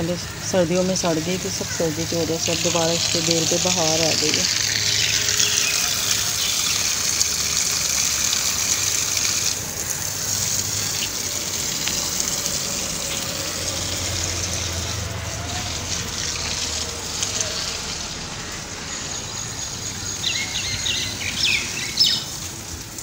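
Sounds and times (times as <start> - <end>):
water rushing hiss: 0.0 - 23.0.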